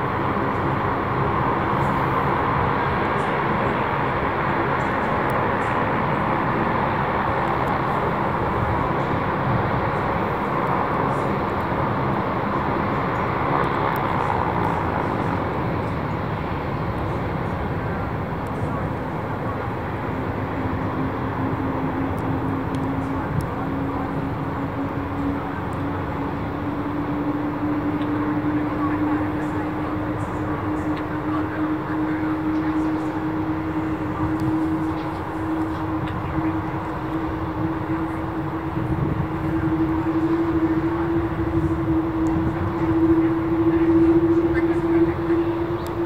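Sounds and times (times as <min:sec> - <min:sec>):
jet engines rumbling: 0:00.0 - 0:46.0.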